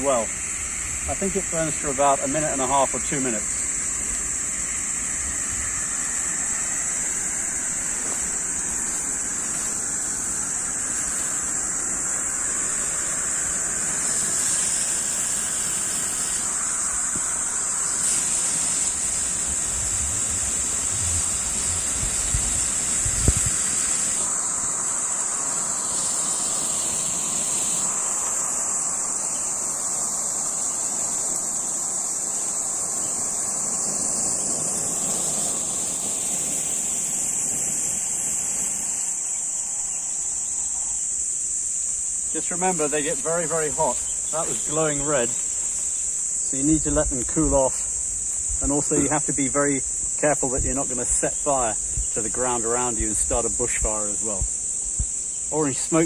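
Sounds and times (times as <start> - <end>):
flares burning with rushing hiss: 0.0 - 56.0
high-pitched whine: 0.0 - 56.0.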